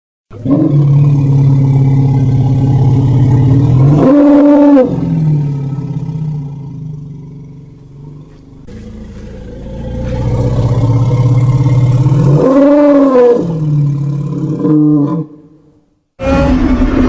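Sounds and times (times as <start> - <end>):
dinosaur roar: 0.4 - 6.7, 8.7 - 15.4, 16.2 - 17.0.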